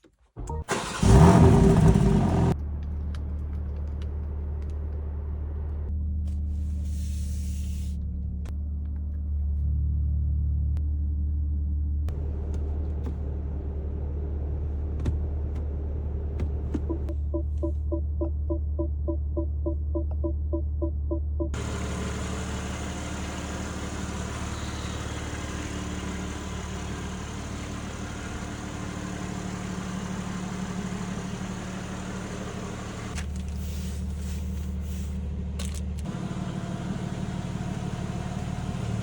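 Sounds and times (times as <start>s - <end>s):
car engine starting and idling: 0.4s - 5.9s, 12.1s - 39.0s.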